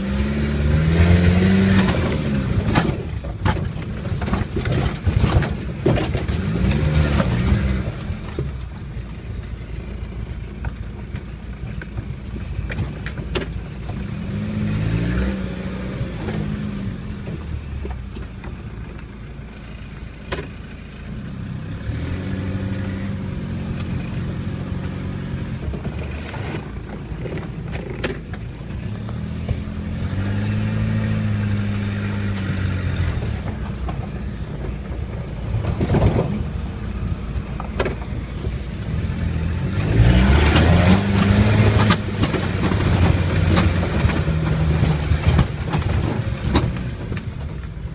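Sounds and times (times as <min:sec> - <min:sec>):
diesel engine revving: 0:00.0 - 0:10.4, 0:13.8 - 0:47.9
dirt and stones thrown by tyres: 0:00.7 - 0:19.1, 0:22.6 - 0:47.9.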